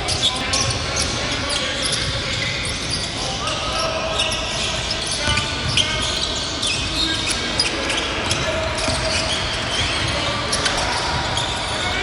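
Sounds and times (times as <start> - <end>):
sneaker squeaks: 0.0 - 12.0
voices in echoing hall: 0.0 - 12.0.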